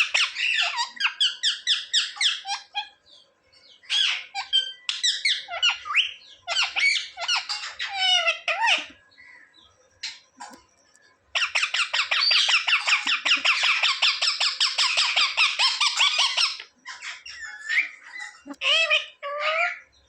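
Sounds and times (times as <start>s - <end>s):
parakeet squawking: 0.0s - 3.0s, 3.9s - 9.0s, 11.4s - 19.8s.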